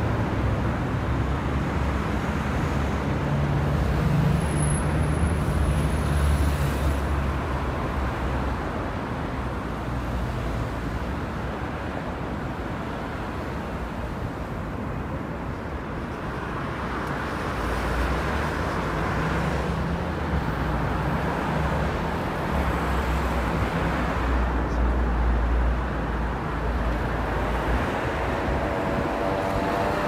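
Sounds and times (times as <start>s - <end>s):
traffic roar: 0.0s - 30.0s.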